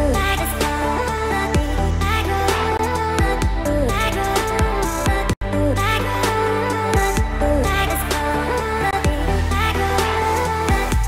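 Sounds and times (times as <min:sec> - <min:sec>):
electronic background music: 0:00.0 - 0:11.0
heavy bass: 0:00.0 - 0:11.0.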